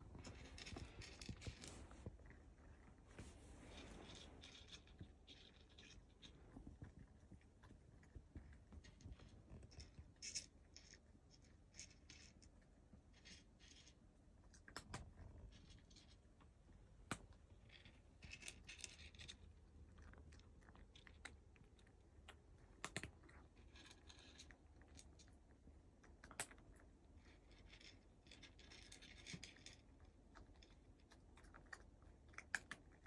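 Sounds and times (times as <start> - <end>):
cat crunching dry kibble: 0.0 - 33.0.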